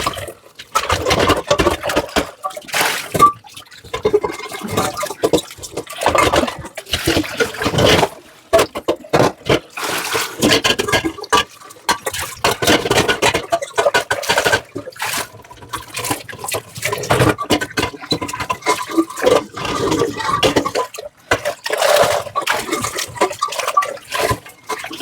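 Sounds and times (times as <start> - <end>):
tap water splashing over dishes: 0.0 - 25.0.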